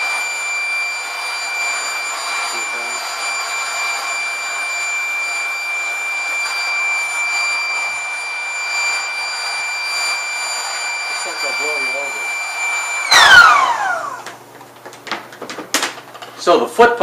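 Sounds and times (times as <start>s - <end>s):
electric air pump whining: 0.0s - 14.8s.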